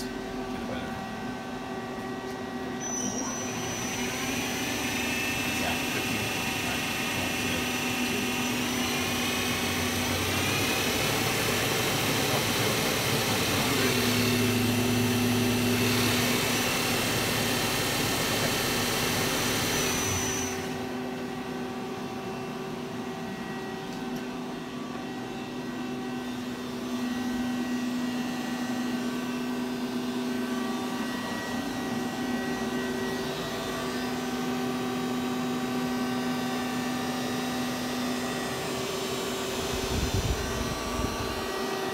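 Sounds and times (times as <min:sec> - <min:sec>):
machine hum: 0:00.0 - 0:41.9
lathe spindle whining: 0:02.7 - 0:41.9.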